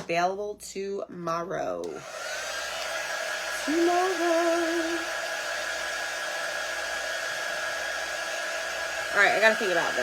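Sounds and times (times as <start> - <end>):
hot-air dryer blowing: 1.8 - 10.0.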